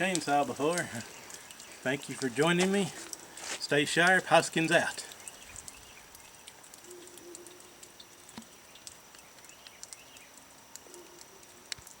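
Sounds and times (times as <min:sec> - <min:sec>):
small clicks and ticks: 0:00.0 - 0:12.0.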